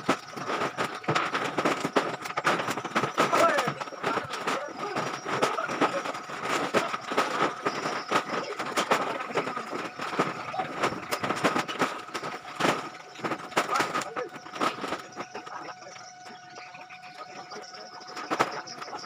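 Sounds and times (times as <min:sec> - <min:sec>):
plastic crinkling and rustling: 0:00.0 - 0:19.0.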